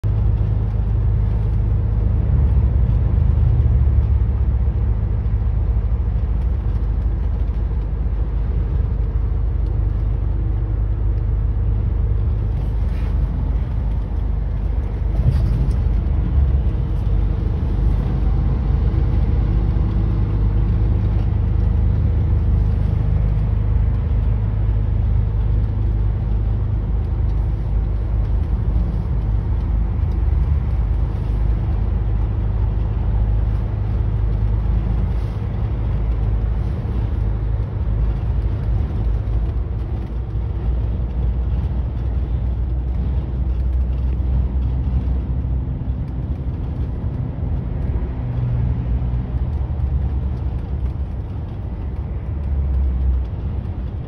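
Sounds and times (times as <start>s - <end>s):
truck engine and tyre rumble: 0.0s - 54.0s.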